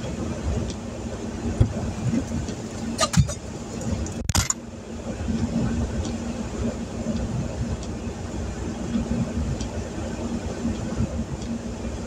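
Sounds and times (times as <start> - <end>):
heavy rain on vehicle roof: 0.0 - 12.0
vehicle engine hum: 0.0 - 12.0.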